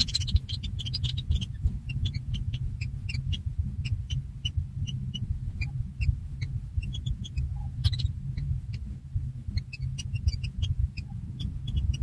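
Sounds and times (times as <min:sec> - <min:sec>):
nestling birds peeping: 0:00.0 - 0:12.0
steady low rumble: 0:00.0 - 0:12.0.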